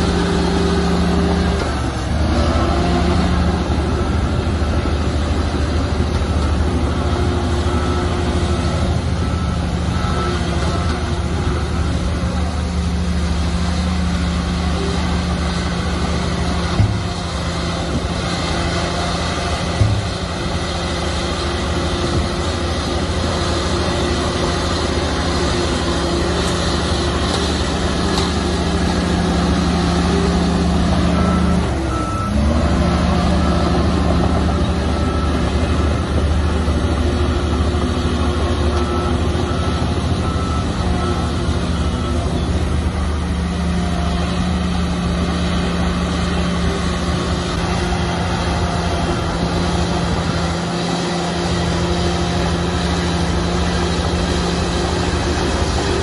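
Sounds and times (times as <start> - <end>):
heavy diesel engine under load: 0.0 - 56.0
reversing alarm beeping: 0.1 - 56.0.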